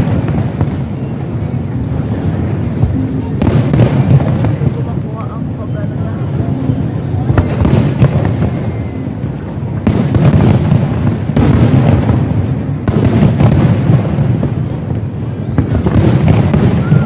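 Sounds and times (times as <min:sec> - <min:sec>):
fireworks booms and crackles: 0:00.0 - 0:17.0.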